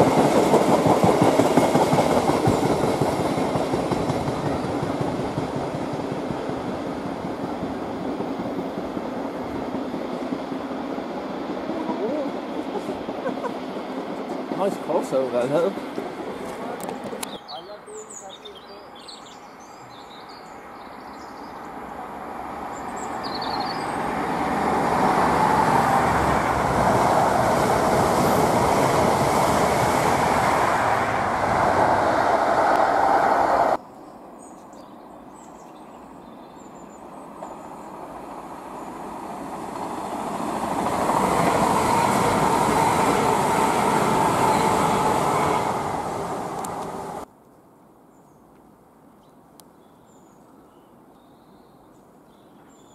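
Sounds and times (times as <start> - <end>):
trains passing: 0.0 - 47.3.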